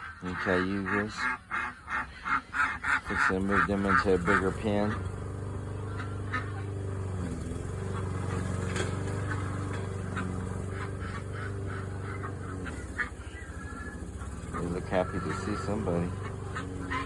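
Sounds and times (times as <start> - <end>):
ducks quacking: 0.0 - 17.0
engine humming: 0.0 - 17.0.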